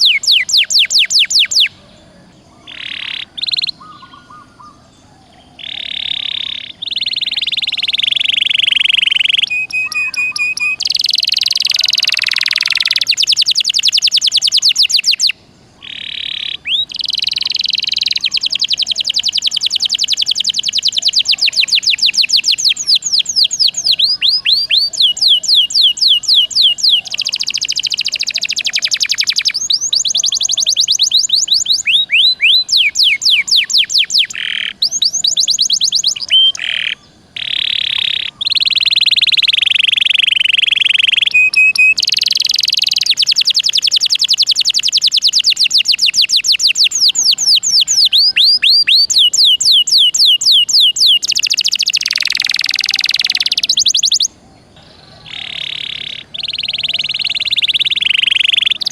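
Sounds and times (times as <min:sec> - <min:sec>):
canary singing: 0:00.0 - 0:58.9.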